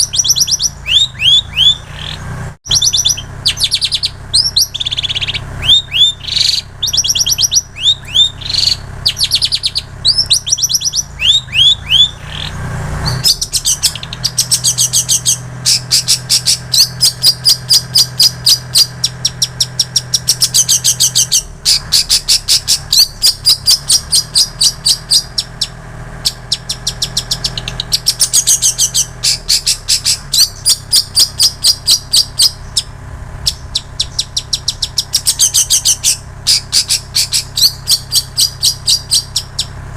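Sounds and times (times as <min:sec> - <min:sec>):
bird singing chirps and trills: 0:00.0 - 0:39.8.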